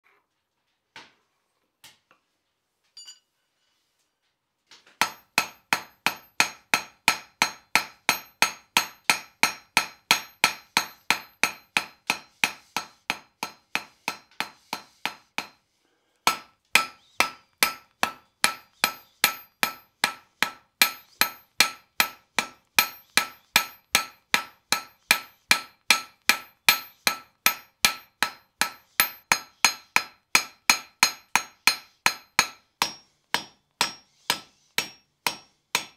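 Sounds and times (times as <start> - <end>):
hammer striking hot iron on anvil: 5.0 - 15.6, 16.2 - 35.9.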